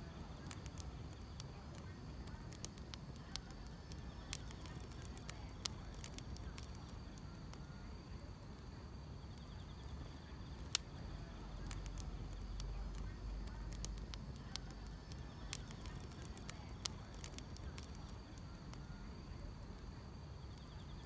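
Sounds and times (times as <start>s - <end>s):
grass insects chirping: 0.0s - 8.2s, 9.2s - 21.0s
wood fire crackling: 0.0s - 21.0s.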